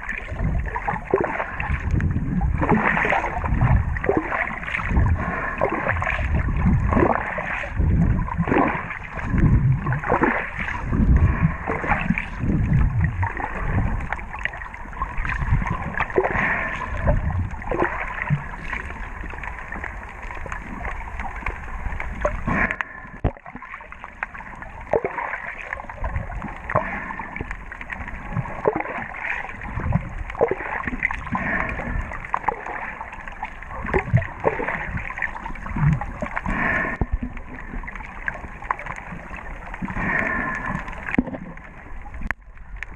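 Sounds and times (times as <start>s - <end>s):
muffled underwater sloshing: 0.0s - 42.9s.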